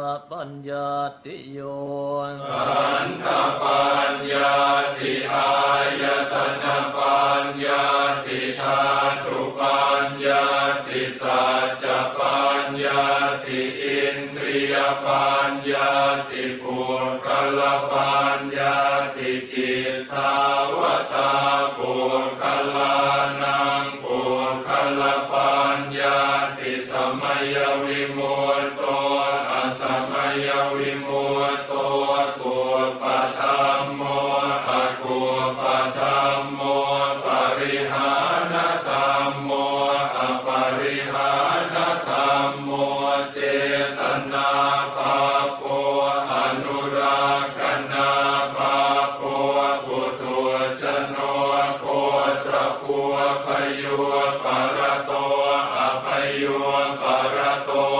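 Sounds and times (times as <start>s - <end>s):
voices chanting: 0.0s - 57.9s.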